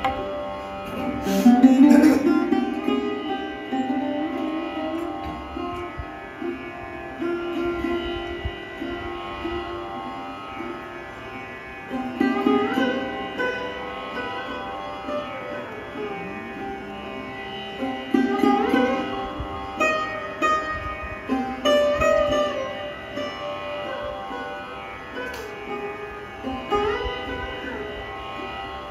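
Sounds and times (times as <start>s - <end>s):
sarod plucked notes sliding: 0.0s - 28.9s
sympathetic strings humming: 0.0s - 28.9s.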